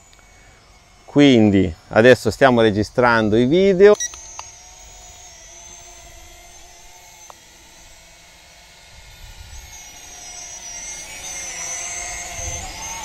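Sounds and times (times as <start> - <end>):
quadcopter drone whine: 0.0 - 13.0.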